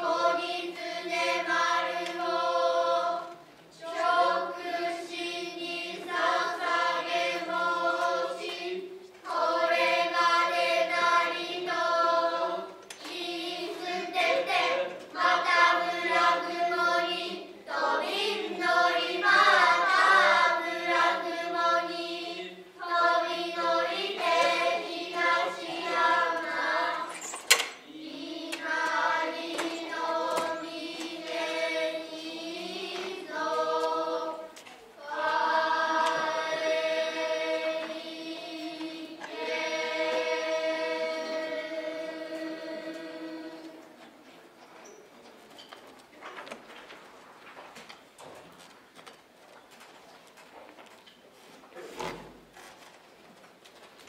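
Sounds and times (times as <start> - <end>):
children chanting in unison: 0.0 - 27.2, 27.9 - 44.0.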